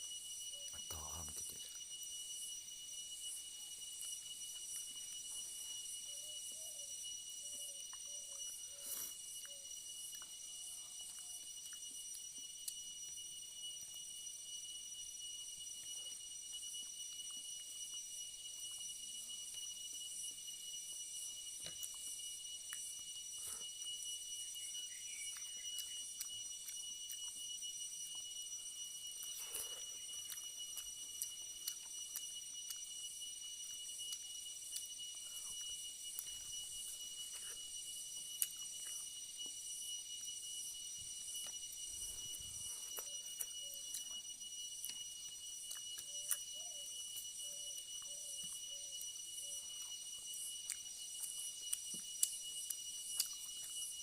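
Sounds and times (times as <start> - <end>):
high-pitched pulsing hum: 0.0 - 54.0
chewing and handling food: 3.4 - 6.3, 7.0 - 54.0.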